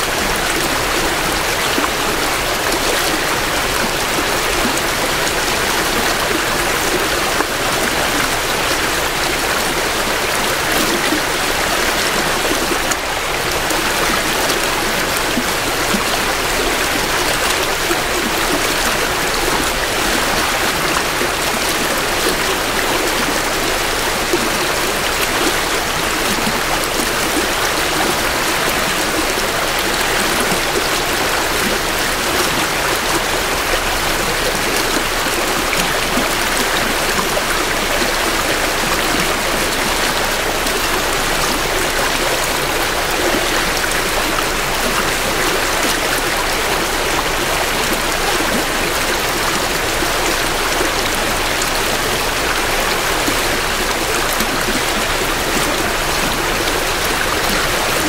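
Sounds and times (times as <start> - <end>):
creek water flowing over rocks: 0.0 - 58.0.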